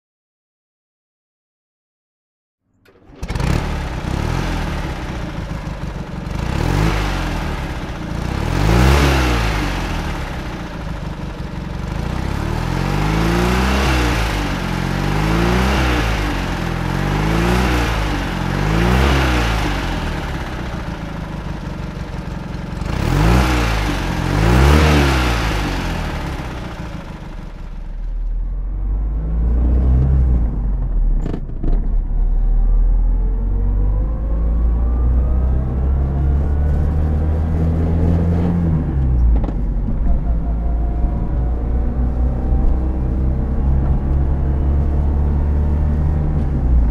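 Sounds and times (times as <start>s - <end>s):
small car engine revving: 2.8s - 46.9s.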